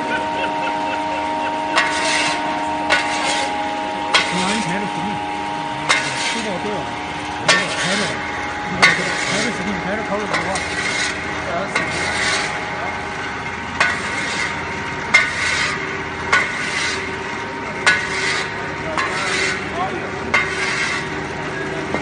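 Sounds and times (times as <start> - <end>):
machine motor hum: 0.0 - 22.0.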